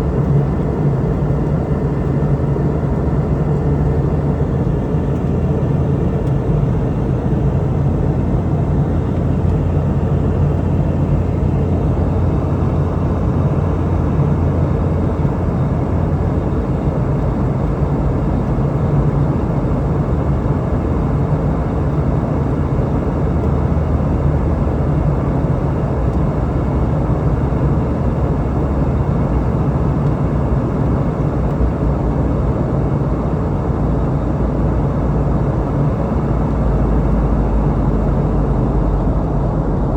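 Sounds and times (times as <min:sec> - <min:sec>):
airflow rush in cabin: 0:00.0 - 0:39.9
jet engines droning: 0:00.0 - 0:39.9.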